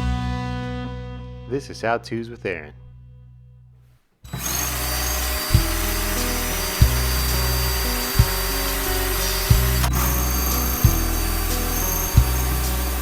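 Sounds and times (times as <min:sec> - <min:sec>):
sustained low music chords: 0:00.0 - 0:03.7, 0:04.3 - 0:13.0.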